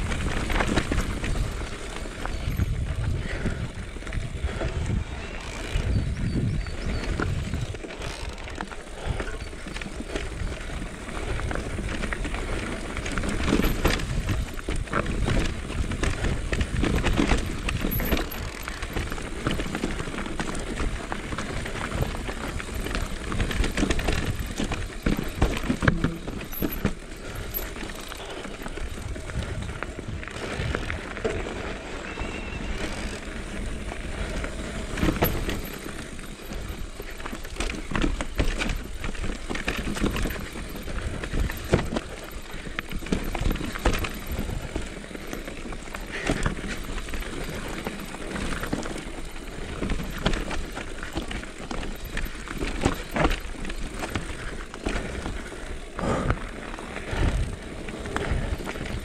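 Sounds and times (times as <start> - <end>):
tyres rolling over stones: 0.0 - 2.6, 7.9 - 59.0
bike rattling and knocking: 0.0 - 59.0.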